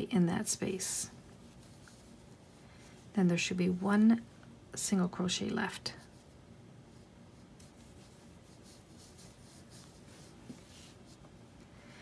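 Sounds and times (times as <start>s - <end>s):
yarn and crochet hook rustling: 0.0s - 11.6s.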